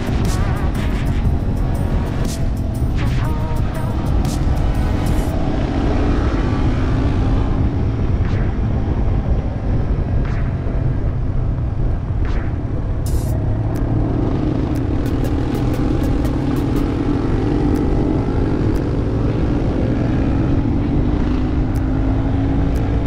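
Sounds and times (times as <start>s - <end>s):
motorcycle engine running: 0.0s - 11.6s, 13.0s - 23.0s
wind and road noise: 0.0s - 23.0s.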